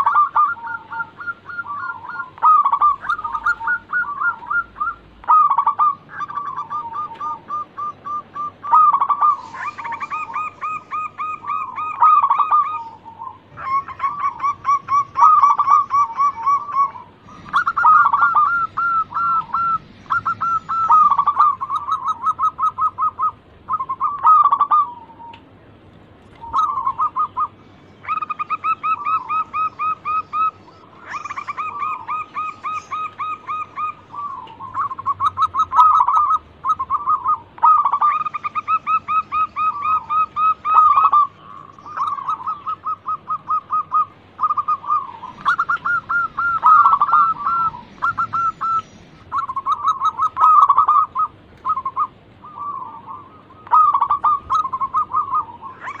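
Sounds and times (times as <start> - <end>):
doves cooing in staccato notes: 0.0 - 25.6, 26.3 - 56.0.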